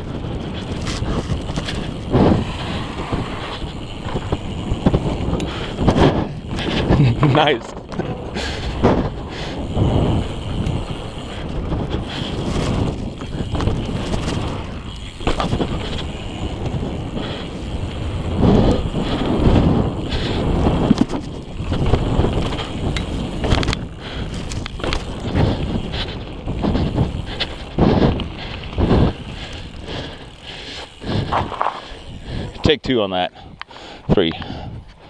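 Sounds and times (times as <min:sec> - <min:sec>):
bike tyres crunching over dirt: 0:00.0 - 0:35.0
wind rushing over microphone: 0:00.0 - 0:35.0.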